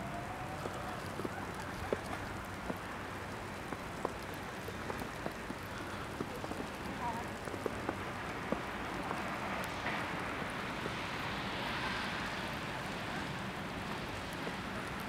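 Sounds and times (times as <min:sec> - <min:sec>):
wet snow falling hiss: 0:00.2 - 0:15.0.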